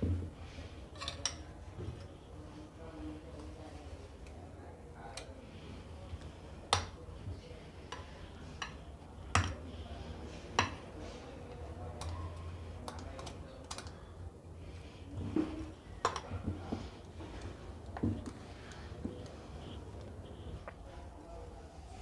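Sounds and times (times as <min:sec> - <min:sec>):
faint low hum: 0:00.4 - 0:22.0.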